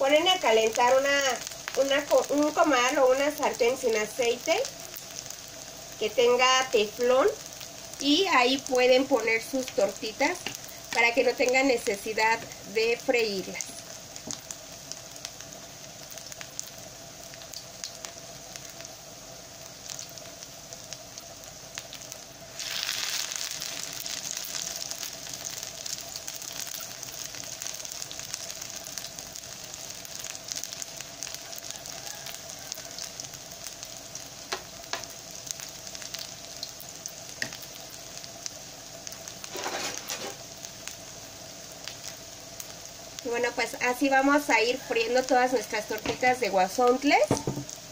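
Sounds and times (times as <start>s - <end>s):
patties sizzling in oil: 0.0s - 47.9s.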